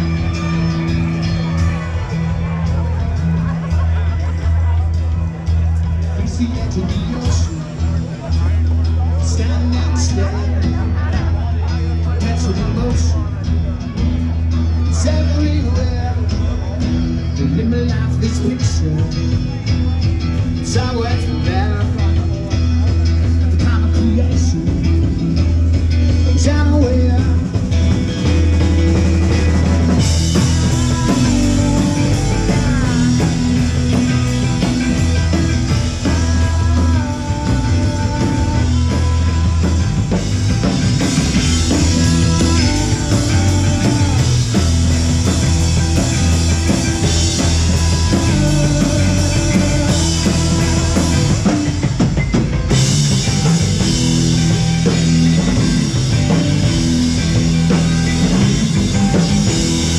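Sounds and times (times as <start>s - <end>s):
drum kit steady beat: 0.0s - 59.9s
guitars: 0.0s - 59.9s.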